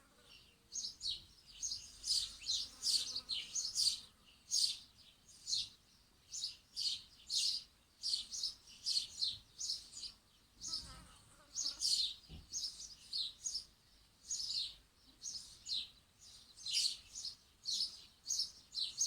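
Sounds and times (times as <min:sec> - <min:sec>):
small birds chirping: 0:00.2 - 0:19.0.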